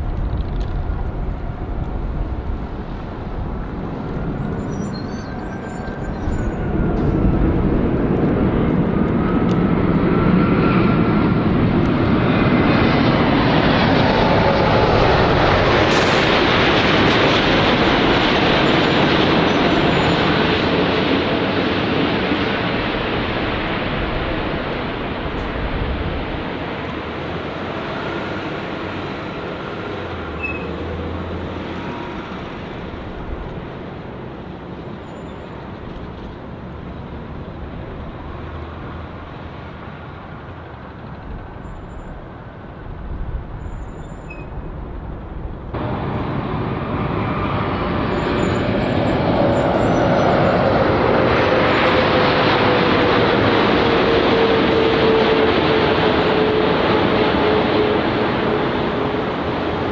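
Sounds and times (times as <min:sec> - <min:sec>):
jet engine whine falling in pitch: 0:00.0 - 0:36.0, 0:37.4 - 0:59.9
jet airliner rumble on runway: 0:00.0 - 0:59.9
jet engines on approach: 0:00.0 - 0:59.9.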